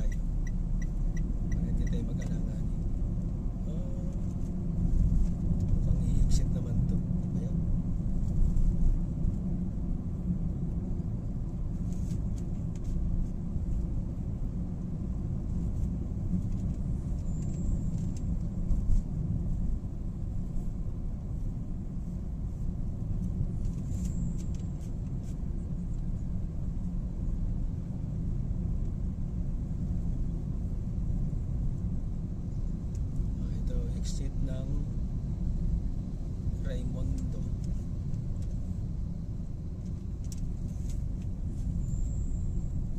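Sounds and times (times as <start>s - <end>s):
car cabin road and engine rumble: 0.0s - 42.9s.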